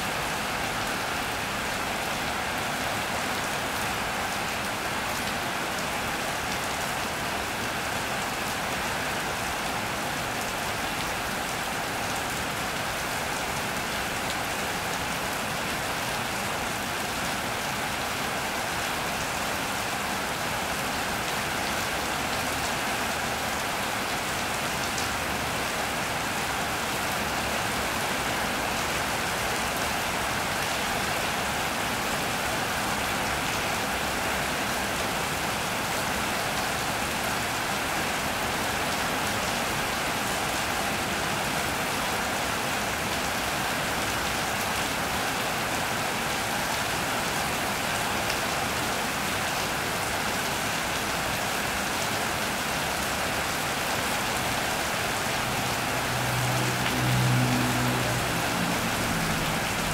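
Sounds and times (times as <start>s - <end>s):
rain on an iron roof: 0.0s - 59.9s.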